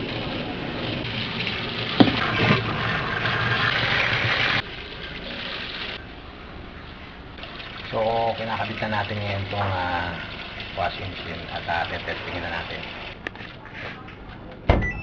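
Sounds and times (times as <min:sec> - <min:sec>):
water running: 0:00.0 - 0:06.0, 0:06.8 - 0:13.6.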